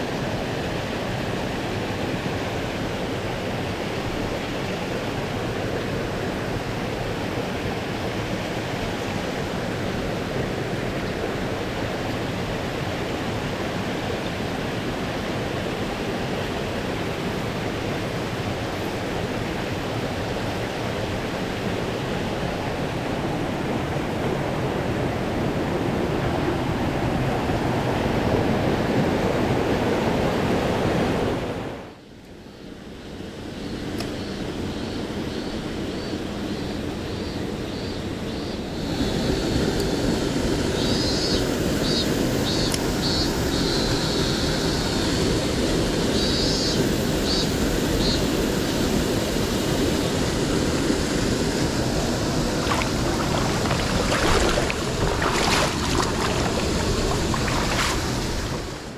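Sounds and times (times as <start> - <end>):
stream water rushing: 0.0 - 31.8, 35.6 - 58.9.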